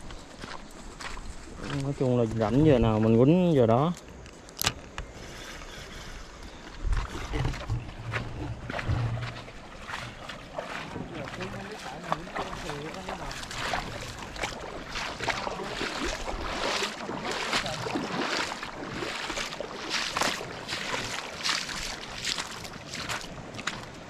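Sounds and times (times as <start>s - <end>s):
footsteps splashing through water: 0.0s - 4.0s, 6.4s - 24.0s.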